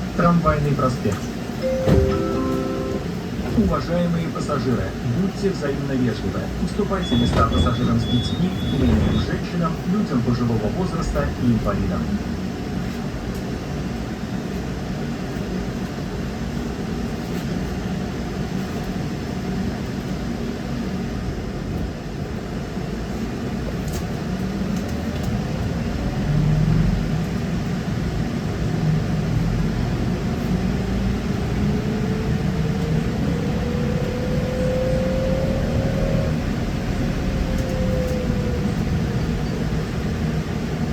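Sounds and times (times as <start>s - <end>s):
trolleybus ride rumble: 0.0s - 40.9s.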